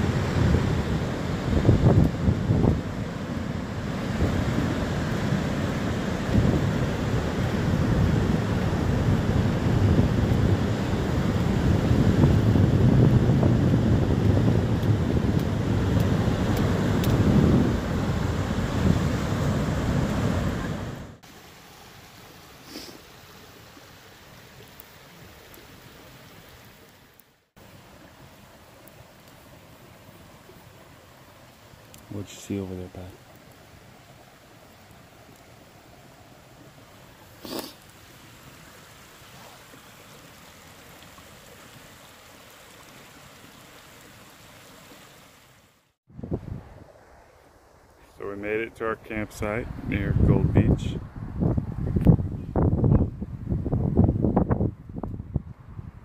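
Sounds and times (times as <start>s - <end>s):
creek water rushing: 0.0s - 51.5s
campfire crackling and hissing: 0.0s - 56.0s
wind: 0.0s - 56.0s.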